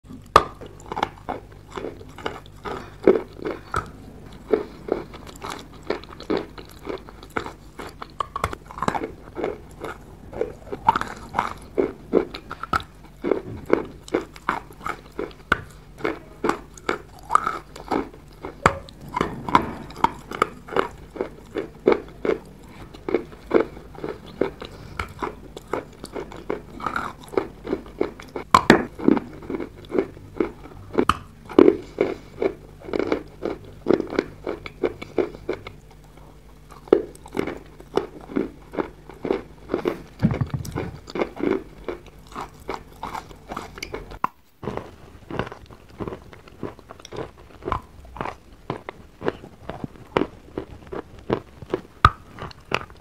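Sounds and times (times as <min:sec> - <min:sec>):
wet chalk being chewed: 0:00.1 - 0:53.0.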